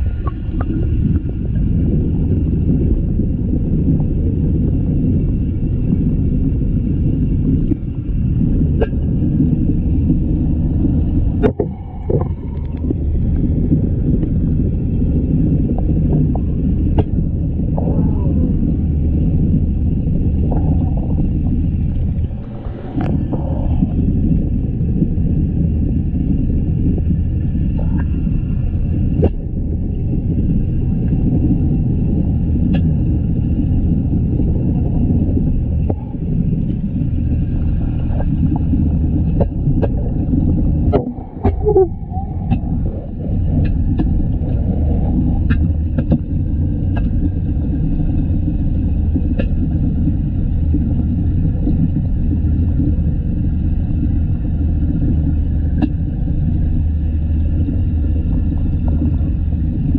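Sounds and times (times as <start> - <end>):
aquarium pumps rumbling: 0.0 - 59.9
faint steady whine: 0.0 - 59.9.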